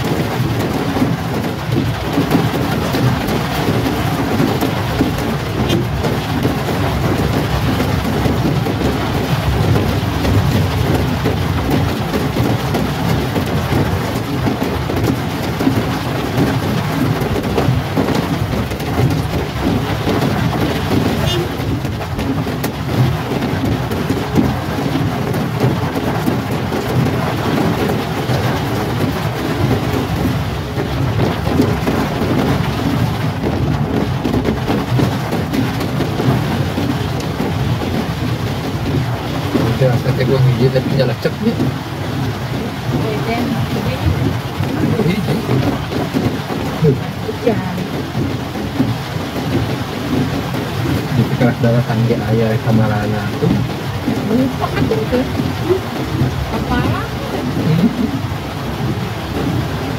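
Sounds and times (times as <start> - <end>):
heavy rain on car roof: 0.0 - 59.9.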